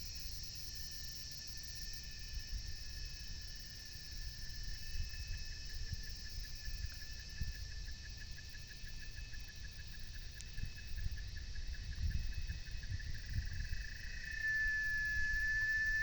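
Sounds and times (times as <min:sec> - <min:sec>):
insects chirping in pulsing trill: 0:00.2 - 0:16.0.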